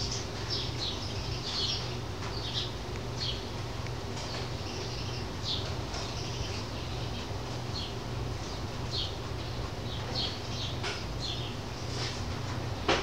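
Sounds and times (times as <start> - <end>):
sparrows chirping: 0.0 - 12.2
steady low hum: 0.0 - 13.0.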